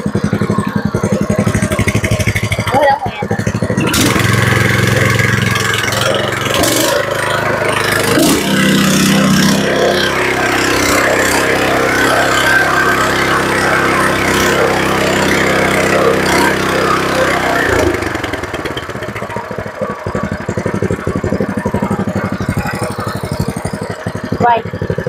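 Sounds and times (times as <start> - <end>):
gasoline engine running then idling: 0.0 - 25.0.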